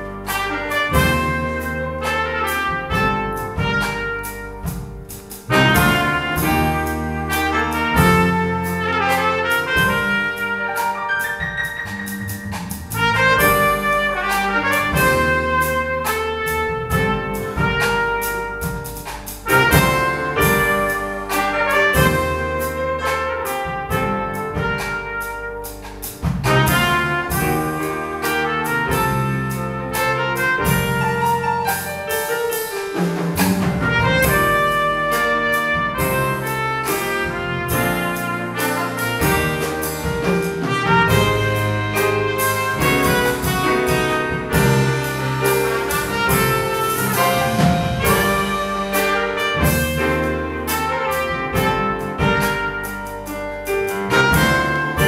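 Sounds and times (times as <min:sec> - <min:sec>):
drum kit steady beat: 0:00.0 - 0:55.0
grand piano: 0:00.0 - 0:55.0
trumpet melody: 0:00.0 - 0:55.0.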